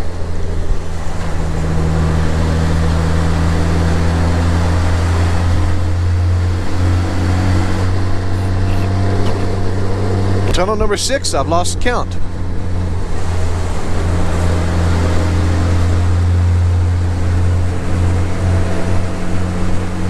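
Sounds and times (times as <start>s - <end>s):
motorcycle engine droning: 0.0s - 20.0s
wind and road noise: 0.0s - 20.0s.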